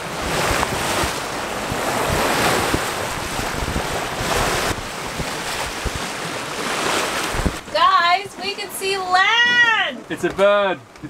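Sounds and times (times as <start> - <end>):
wind gusts buffeting microphone: 0.0 - 10.7
waves breaking: 0.0 - 11.0
wind: 0.0 - 11.0.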